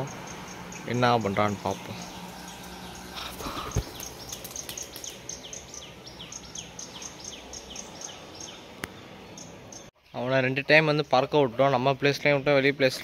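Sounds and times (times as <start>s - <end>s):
bird chirping rapidly: 0.0s - 10.9s
outdoor background noise: 0.0s - 13.0s.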